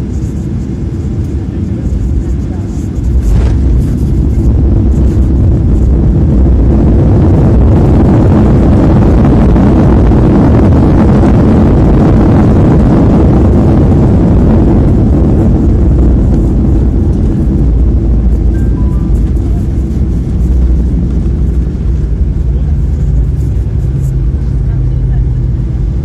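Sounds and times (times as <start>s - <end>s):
jet engines roaring in reverse thrust: 0.0s - 26.0s.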